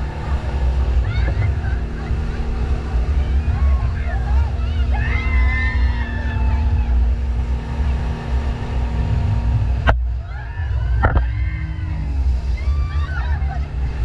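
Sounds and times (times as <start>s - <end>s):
heavy low rumble: 0.0s - 14.0s
motorboat engine running: 0.0s - 14.0s.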